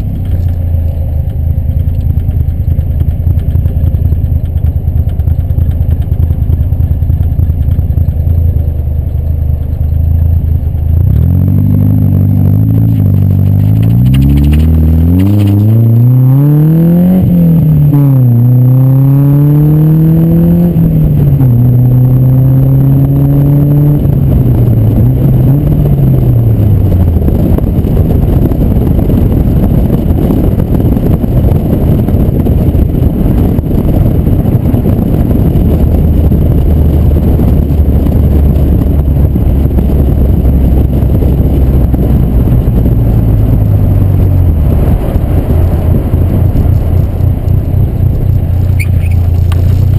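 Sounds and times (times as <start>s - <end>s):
car engine accelerating: 0.0s - 49.9s
wind and road noise: 0.0s - 49.9s.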